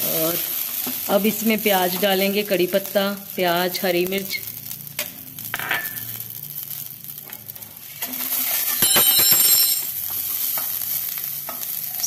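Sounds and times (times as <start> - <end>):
mustard seeds crackling in oil: 0.0 - 9.0, 9.6 - 12.0
onions frying: 0.0 - 12.0.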